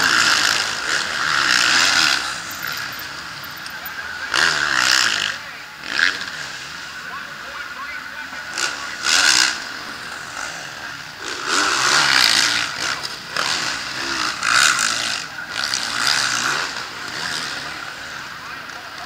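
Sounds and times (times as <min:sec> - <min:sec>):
motocross bikes revving past: 0:00.0 - 0:07.0, 0:08.5 - 0:19.0.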